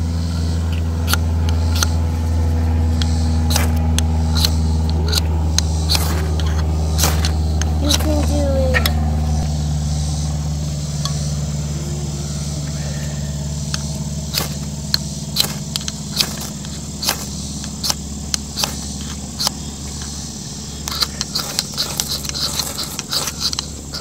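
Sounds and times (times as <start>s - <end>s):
fire steel scraping rasps: 0.0s - 9.5s, 12.5s - 24.0s
low engine-like hum: 0.0s - 24.0s.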